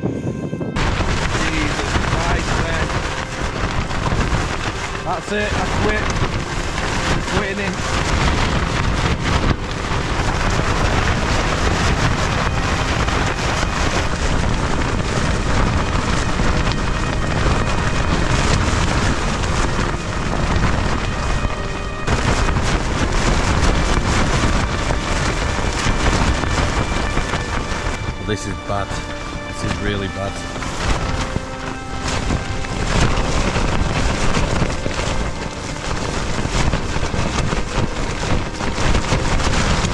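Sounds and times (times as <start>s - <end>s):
tent fabric flapping: 0.0s - 39.9s
wind buffeting tent: 0.0s - 39.9s
wind noise on microphone: 0.0s - 39.9s.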